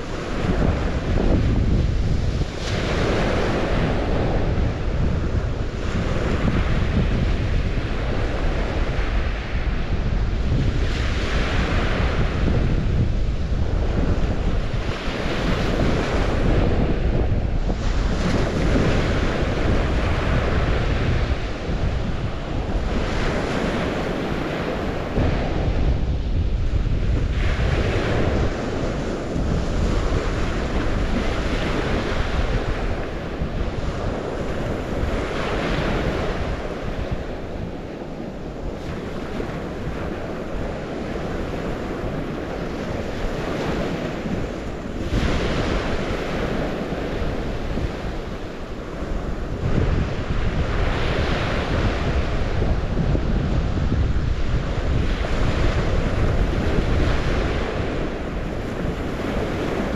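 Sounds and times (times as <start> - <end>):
waves washing on shore: 0.0 - 59.9
wind rumbling on microphone: 0.0 - 59.9.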